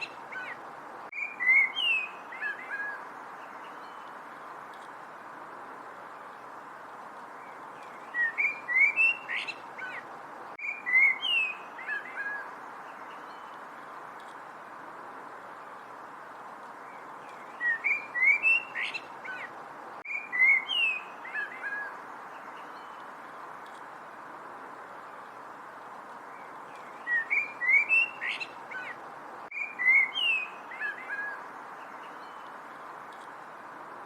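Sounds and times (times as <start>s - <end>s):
songbird chirping: 0.0s - 34.0s
steady background hiss: 0.0s - 34.0s.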